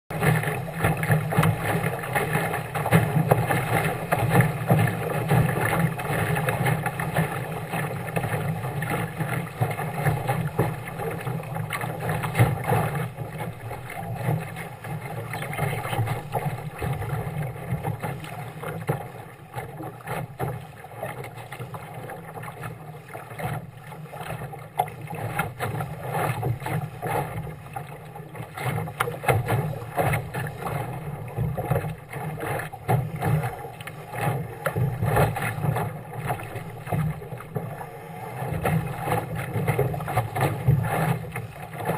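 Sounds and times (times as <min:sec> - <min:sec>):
water rushing along a hull: 0:00.1 - 0:41.9.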